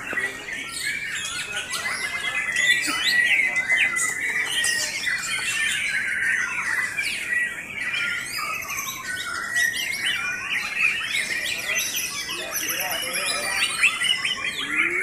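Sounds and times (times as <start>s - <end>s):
chorus of birds singing: 0.0s - 15.0s.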